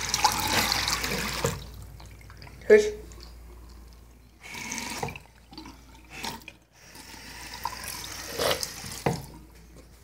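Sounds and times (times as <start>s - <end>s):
water running from tub spout: 0.0s - 9.7s.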